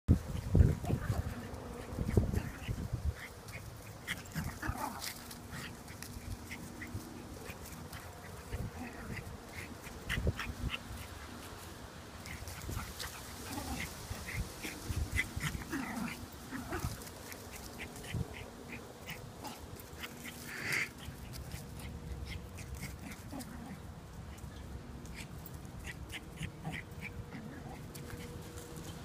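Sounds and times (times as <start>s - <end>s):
small dogs yipping: 0.2s - 11.6s, 12.2s - 29.0s.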